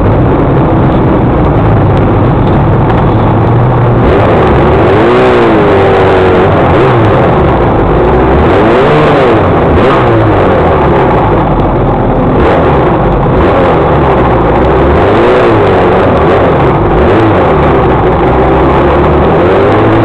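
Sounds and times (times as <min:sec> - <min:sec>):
motorcycle engine revving: 0:00.0 - 0:20.0
wind rushing over camera: 0:00.0 - 0:20.0.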